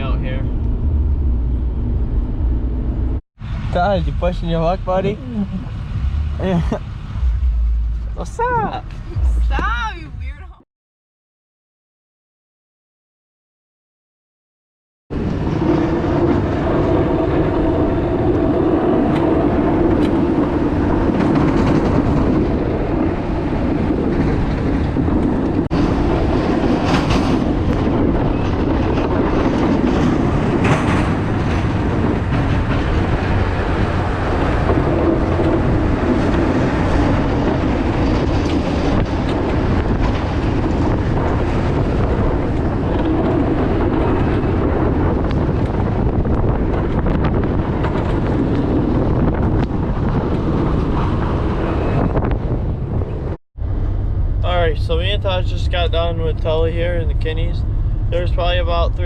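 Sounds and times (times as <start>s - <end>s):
snow plow truck rumble and clatter: 0.0s - 10.6s, 15.1s - 59.0s.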